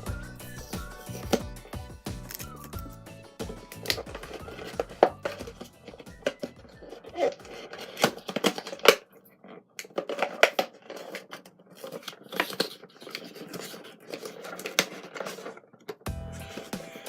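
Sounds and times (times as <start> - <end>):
plastic packaging handled by hand: 0.5 - 17.0.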